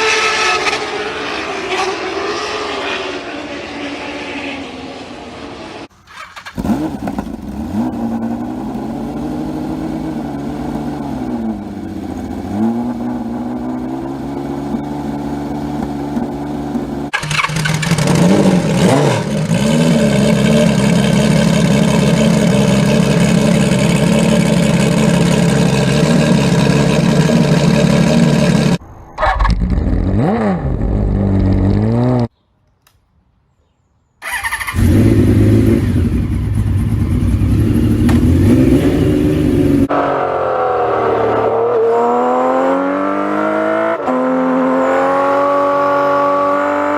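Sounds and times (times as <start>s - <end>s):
motorcycle engine revving: 0.0s - 32.3s, 34.2s - 46.9s.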